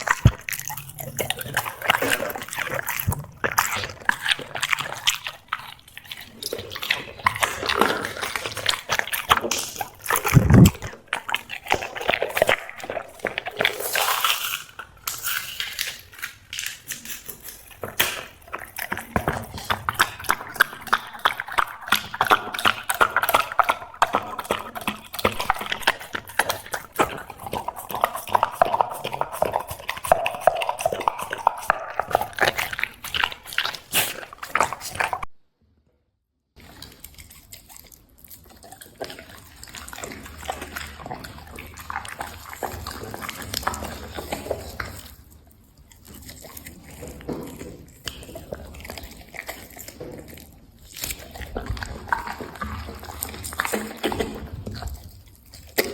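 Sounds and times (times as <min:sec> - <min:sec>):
dog chewing wetly: 0:00.0 - 0:35.4, 0:36.6 - 0:55.9.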